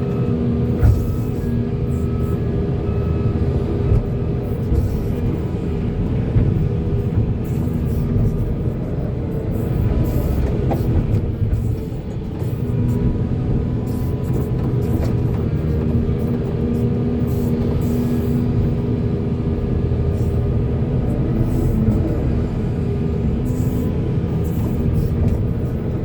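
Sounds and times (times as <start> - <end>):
excavator diesel engine rumbling: 0.0 - 26.0.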